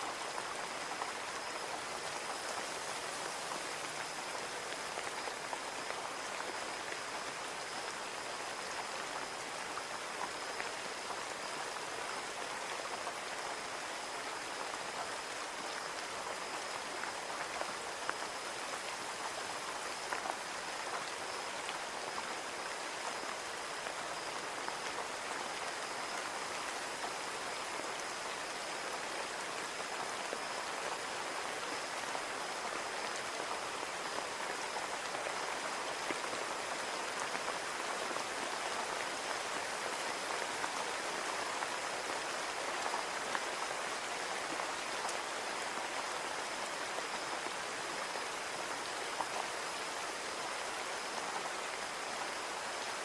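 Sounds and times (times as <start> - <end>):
rain pattering on a window: 0.0 - 53.0.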